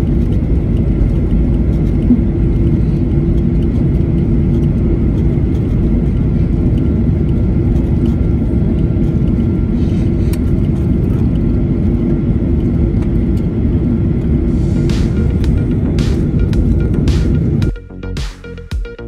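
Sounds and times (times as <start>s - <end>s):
aircraft cabin rumble: 0.0s - 17.7s.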